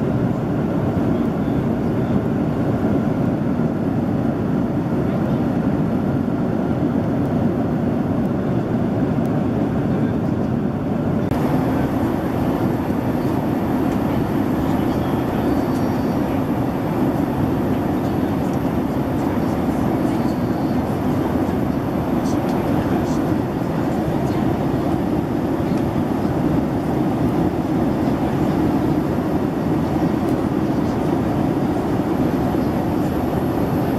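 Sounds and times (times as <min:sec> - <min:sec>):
airliner cabin engine roar: 0:00.0 - 0:33.9.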